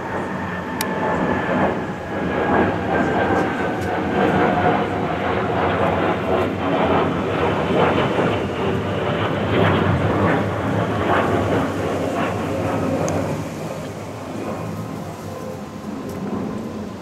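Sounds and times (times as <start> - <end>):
jet engines rumbling overhead: 0.0 - 17.0.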